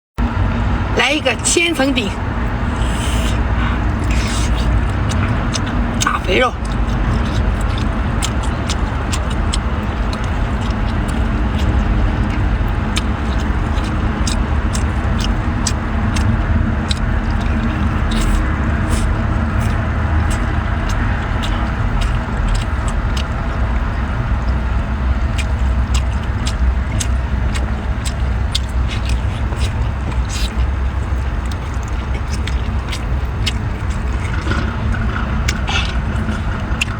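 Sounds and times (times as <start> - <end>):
low rumble: 0.2 - 36.9.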